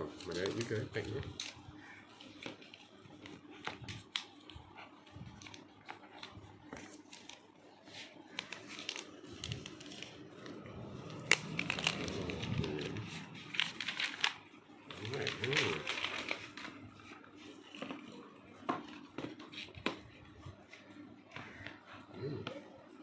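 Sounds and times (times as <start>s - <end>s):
plastic crinkling: 0.0s - 20.4s
cardboard and plastic rustling: 0.0s - 21.9s.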